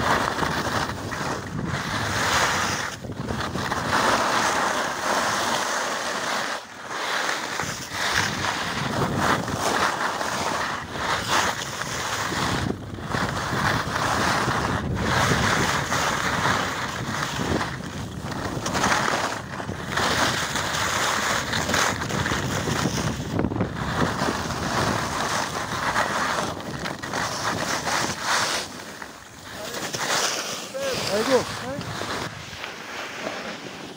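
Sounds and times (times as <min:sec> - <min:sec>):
wind rushing over microphone: 0:00.0 - 0:05.5, 0:07.6 - 0:32.6
skis scraping packed snow: 0:00.0 - 0:33.9.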